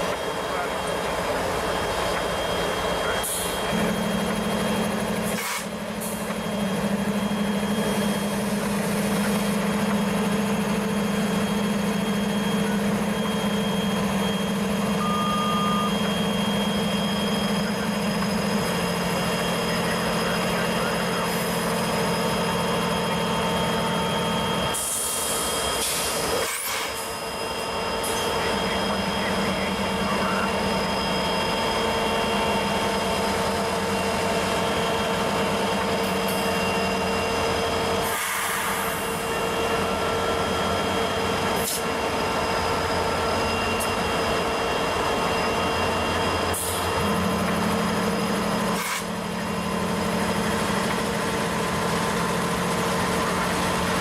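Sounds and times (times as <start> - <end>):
diesel locomotive engines humming: 0.0 - 54.0.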